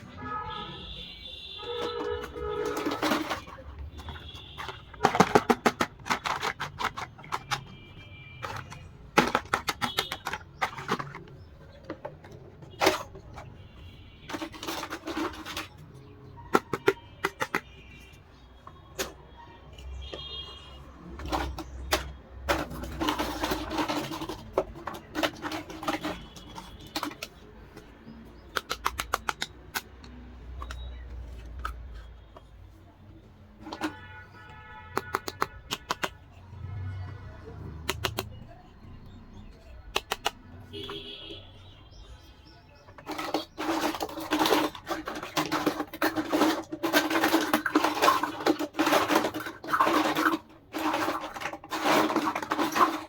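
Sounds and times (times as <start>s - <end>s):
plastic toy pieces clicking and rattling: 1.6s - 19.2s, 20.9s - 32.6s, 33.5s - 38.6s, 39.4s - 41.1s, 42.0s - 53.0s.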